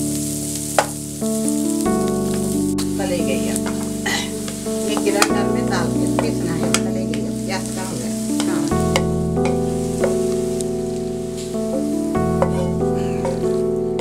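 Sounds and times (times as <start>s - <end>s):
background music sustained chords: 0.0s - 14.0s
onions sizzling in oil: 0.0s - 14.0s
wooden spatula scraping pan: 2.0s - 14.0s.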